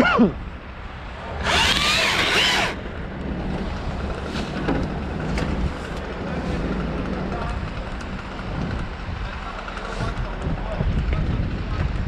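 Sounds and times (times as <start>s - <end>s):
low engine hum: 0.2s - 12.0s
wind buffeting microphone: 0.5s - 12.0s.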